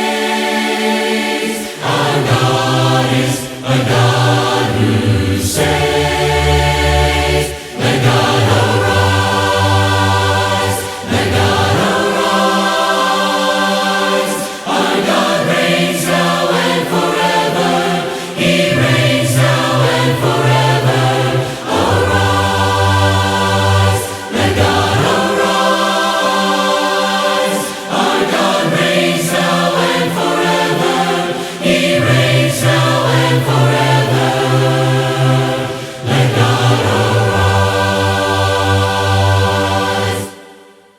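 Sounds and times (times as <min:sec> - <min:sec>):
choir singing in harmony: 0:00.0 - 0:40.9.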